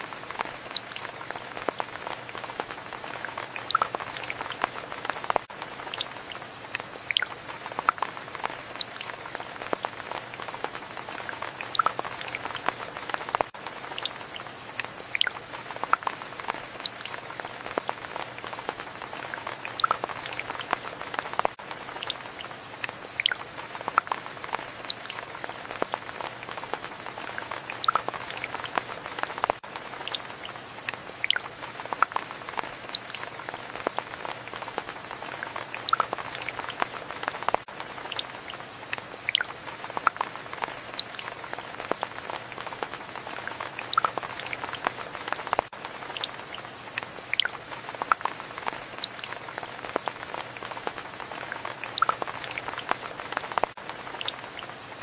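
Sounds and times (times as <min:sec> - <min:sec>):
close raindrops striking: 0:00.0 - 0:55.0
rain falling: 0:00.0 - 0:55.0.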